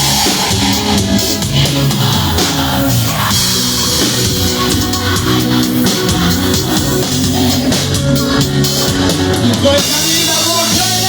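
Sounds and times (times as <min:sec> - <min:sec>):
drum kit beat: 0:00.0 - 0:11.0
live band playing: 0:00.0 - 0:11.0.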